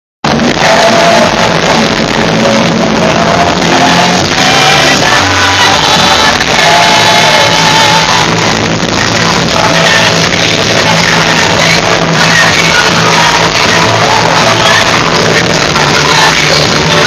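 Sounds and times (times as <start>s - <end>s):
crowd shouting along: 0.3s - 17.0s
live rock band with singers: 0.3s - 17.0s.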